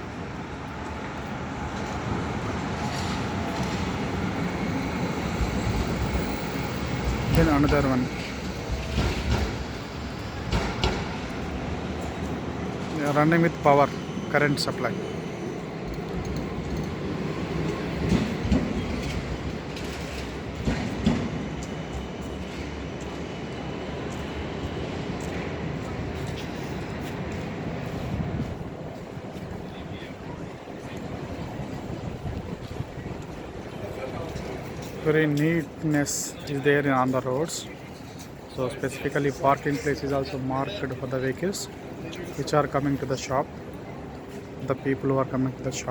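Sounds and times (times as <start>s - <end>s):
tram wheels rumbling on rail: 0.0s - 45.9s.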